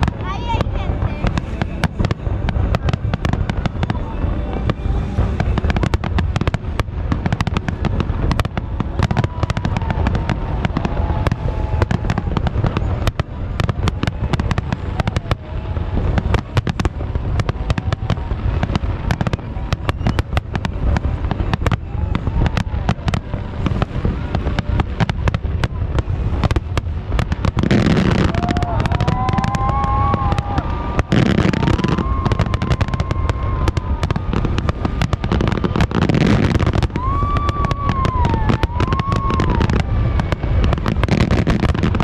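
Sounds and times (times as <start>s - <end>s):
fireworks bangs and crackles: 0.0s - 42.0s
low rumble: 0.0s - 42.0s.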